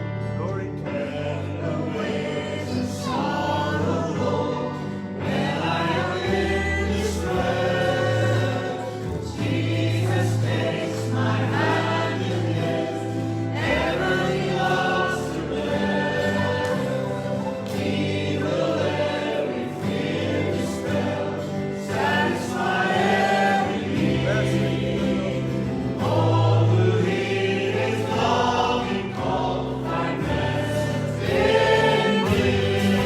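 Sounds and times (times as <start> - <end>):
band with steady bass line: 0.0 - 33.0
congregation singing: 0.0 - 33.0.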